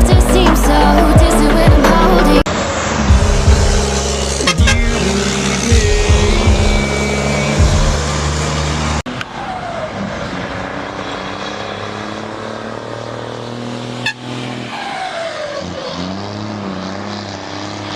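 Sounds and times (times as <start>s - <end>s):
diesel truck engines revving: 0.0s - 17.9s.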